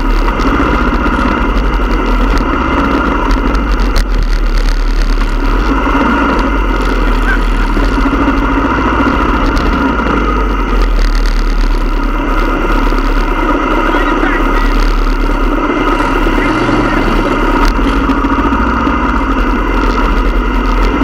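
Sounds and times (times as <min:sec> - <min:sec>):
motorcycle engines idling: 0:00.0 - 0:21.0.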